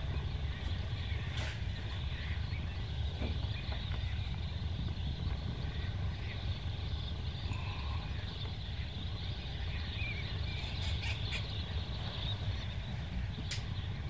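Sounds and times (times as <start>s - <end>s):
distant shorebird calls: 0.0s - 14.0s
wind rumble on microphone: 0.0s - 14.0s.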